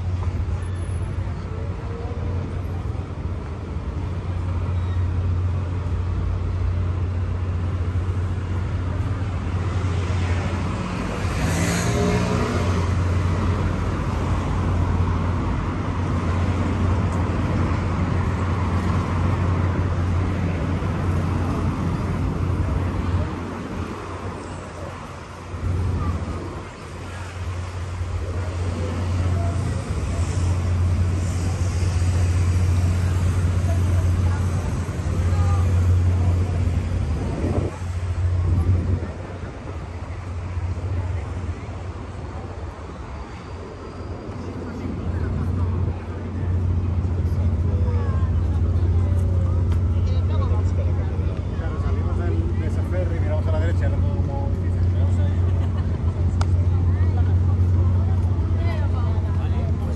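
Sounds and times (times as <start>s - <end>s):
steady low traffic hum: 0.0s - 59.9s
vehicles passing by: 0.0s - 59.9s
voices of passers-by: 0.0s - 59.9s.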